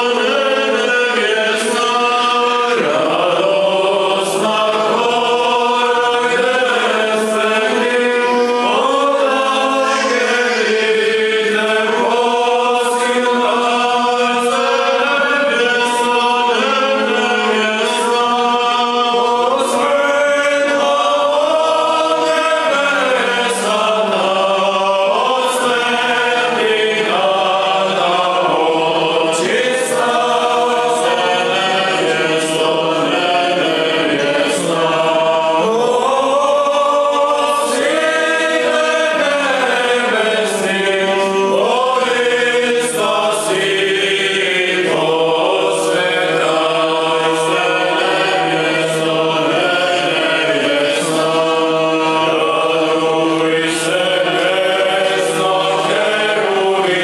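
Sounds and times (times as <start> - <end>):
choir chanting a hymn: 0.0 - 57.0.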